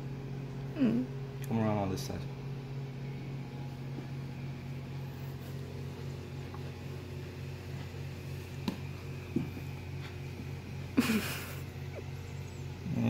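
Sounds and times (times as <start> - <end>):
aquarium pumps humming: 0.0 - 13.0.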